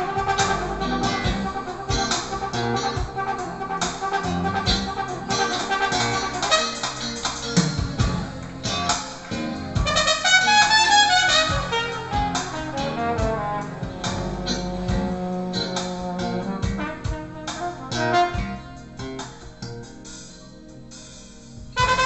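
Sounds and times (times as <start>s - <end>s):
jazz through loudspeakers: 0.0s - 22.0s.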